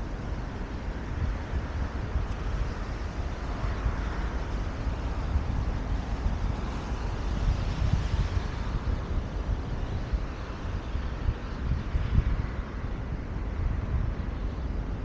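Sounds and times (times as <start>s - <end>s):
steady outdoor hiss: 0.0s - 15.0s
wind buffeting microphone: 0.0s - 15.0s.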